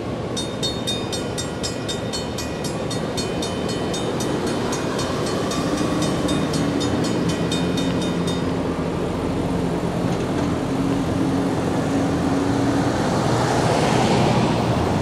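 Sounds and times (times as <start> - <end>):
vehicles driving past: 2.2 - 15.0.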